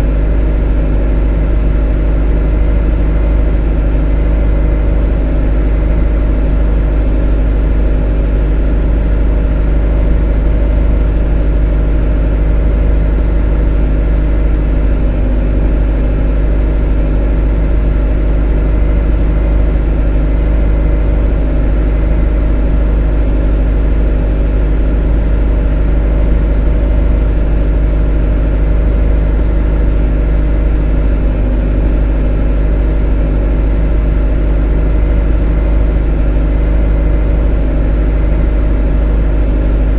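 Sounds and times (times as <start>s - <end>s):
motor humming: 0.0s - 39.9s.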